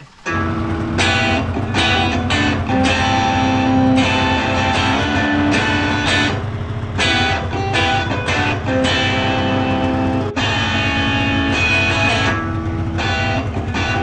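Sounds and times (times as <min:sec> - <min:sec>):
guitar-led song: 0:00.0 - 0:14.0.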